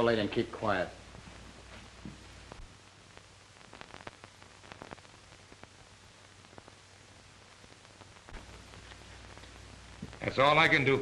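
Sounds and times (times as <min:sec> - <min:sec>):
film soundtrack surface hiss: 0:00.0 - 0:11.0.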